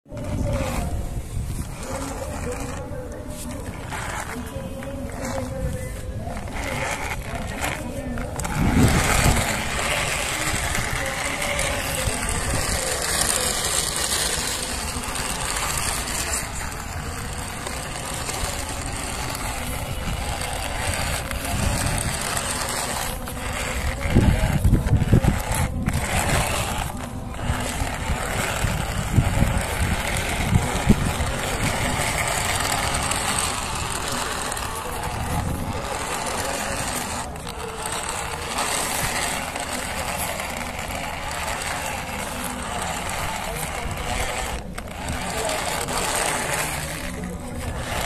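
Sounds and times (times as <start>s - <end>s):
toy truck wheels crunching dirt: 0.0s - 48.0s
low rumbling buffets: 0.1s - 48.0s.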